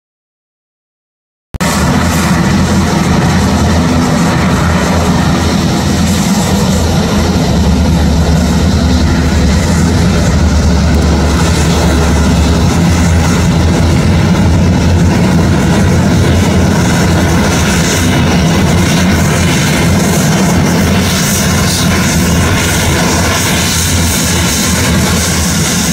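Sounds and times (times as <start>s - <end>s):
turboprop engine droning: 1.6s - 25.9s.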